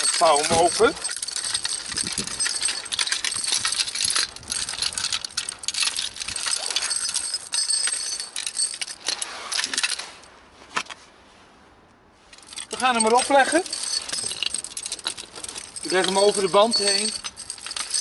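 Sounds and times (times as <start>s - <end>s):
chain links jangling: 0.0s - 10.2s, 12.3s - 18.0s.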